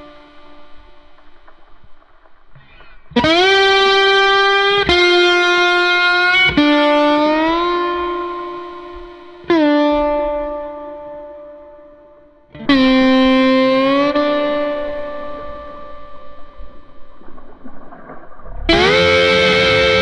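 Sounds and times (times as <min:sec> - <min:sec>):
distorted electric guitar notes: 0:00.0 - 0:20.0.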